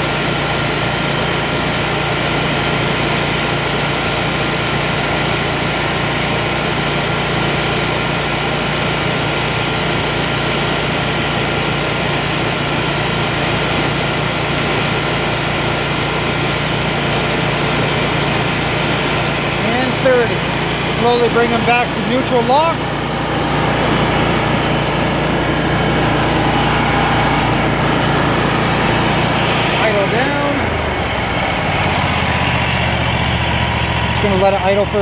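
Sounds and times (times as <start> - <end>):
mower engine running: 0.0 - 35.0.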